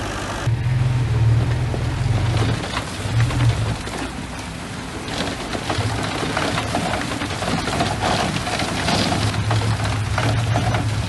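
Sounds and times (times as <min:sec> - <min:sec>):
bulldozer diesel engine hum: 0:00.0 - 0:11.0.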